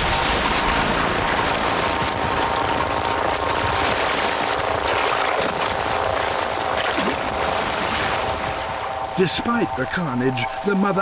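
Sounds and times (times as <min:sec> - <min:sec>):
water churning and splashing: 0:00.0 - 0:11.0.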